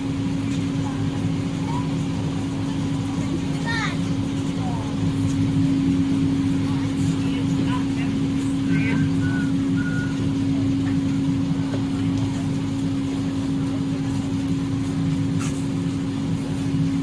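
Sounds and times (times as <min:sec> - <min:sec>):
boat engine idling: 0:00.0 - 0:15.3.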